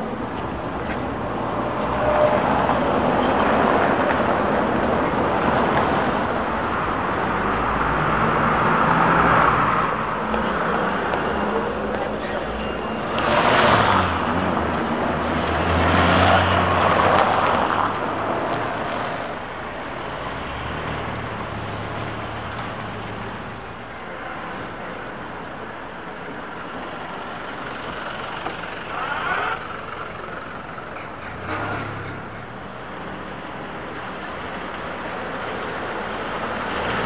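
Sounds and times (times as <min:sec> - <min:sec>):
steady traffic hum: 0:00.0 - 0:37.0.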